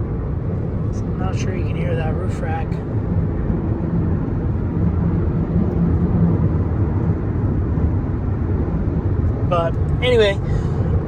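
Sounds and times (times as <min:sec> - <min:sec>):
wind and road noise in car: 0:00.0 - 0:11.0.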